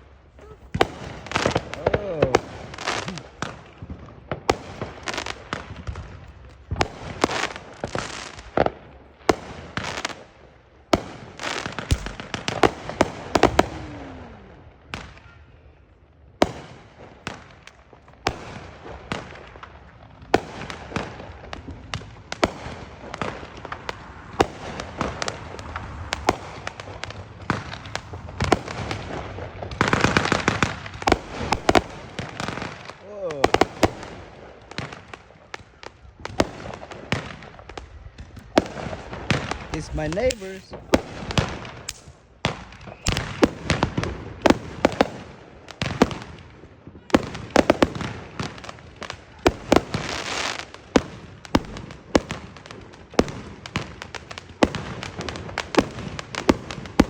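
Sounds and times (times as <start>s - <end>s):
fireworks bangs and pops: 0.0s - 15.5s, 16.3s - 57.0s
fireworks crackling: 0.0s - 57.0s.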